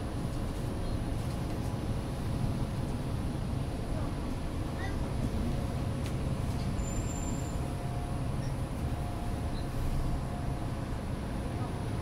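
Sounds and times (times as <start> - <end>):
bus engine rumble from inside: 0.0 - 12.0.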